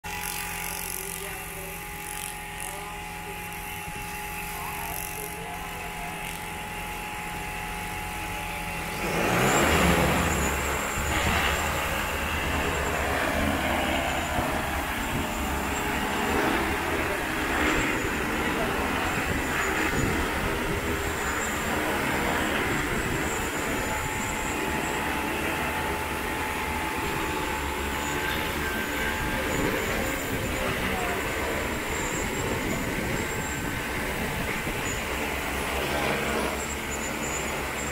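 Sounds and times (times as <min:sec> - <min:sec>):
drone propellers humming: 0:00.0 - 0:37.9.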